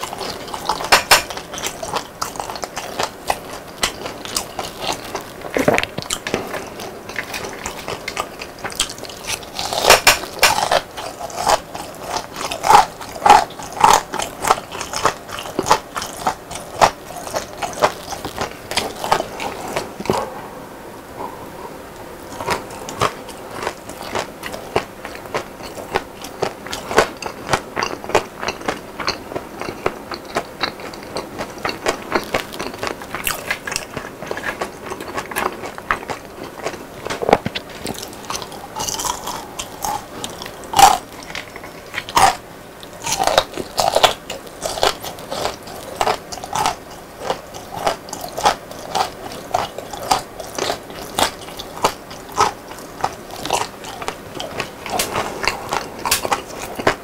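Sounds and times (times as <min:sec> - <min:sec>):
crunchy chewing of fried food: 0:00.0 - 0:20.4, 0:21.2 - 0:57.0.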